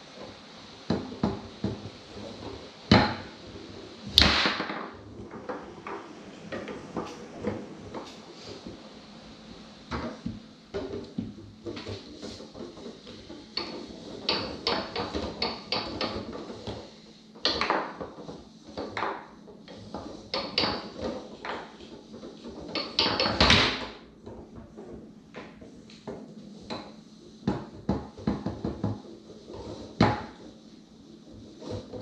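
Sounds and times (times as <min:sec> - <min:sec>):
foosball ball knocks and clicks: 0:00.3 - 0:32.0
rods sliding and clacking: 0:01.0 - 0:32.0.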